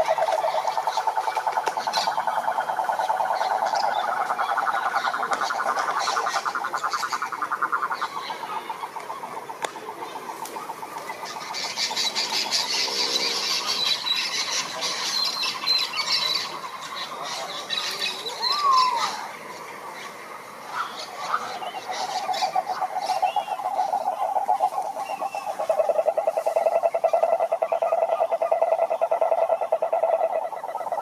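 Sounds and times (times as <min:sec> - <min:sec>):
frogs trilling: 0:00.0 - 0:31.0.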